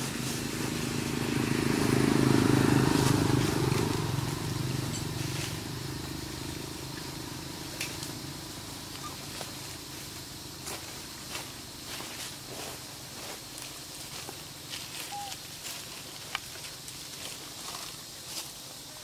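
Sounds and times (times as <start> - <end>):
vehicle engine passing by: 0.0 - 16.1.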